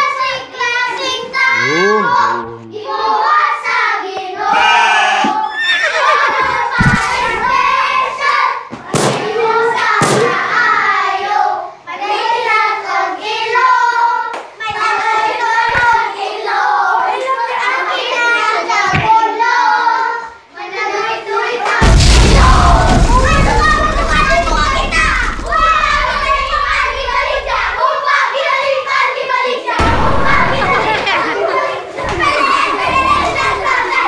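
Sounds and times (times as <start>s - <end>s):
children singing and shouting: 0.0s - 34.0s.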